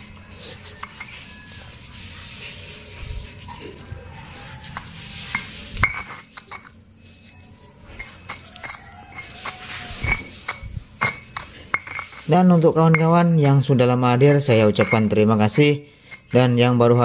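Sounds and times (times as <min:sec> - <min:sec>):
stone pestle scraping in mortar: 0:00.0 - 0:13.4, 0:14.6 - 0:16.5.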